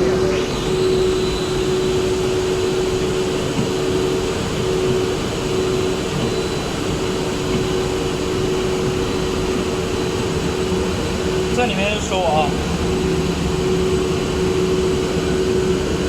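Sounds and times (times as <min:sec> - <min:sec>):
machinery humming steadily: 0:00.0 - 0:16.0.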